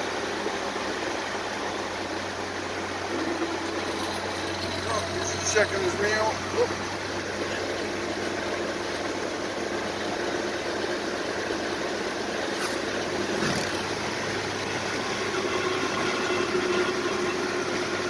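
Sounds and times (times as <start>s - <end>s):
road and wind noise: 0.0s - 18.0s
truck engine droning: 0.0s - 18.0s.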